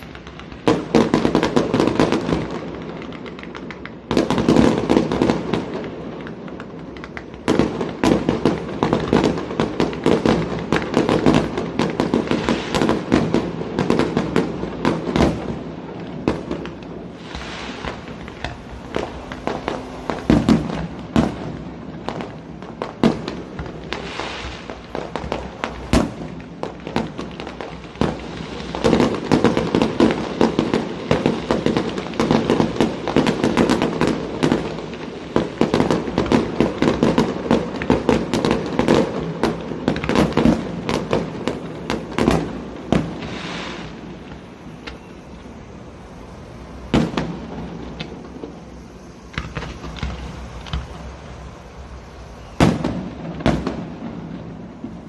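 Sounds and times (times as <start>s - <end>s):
fireworks bursting in sharp bangs: 0.0s - 55.0s
fireworks crackle: 0.0s - 55.0s.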